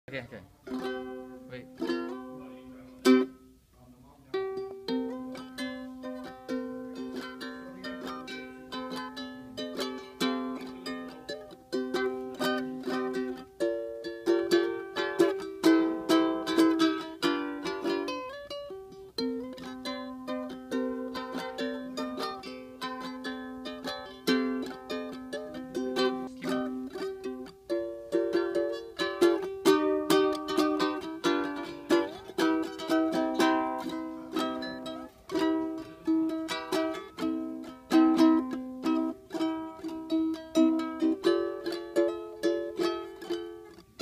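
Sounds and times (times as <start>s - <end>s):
strummed plucked strings music: 0.6s - 44.0s.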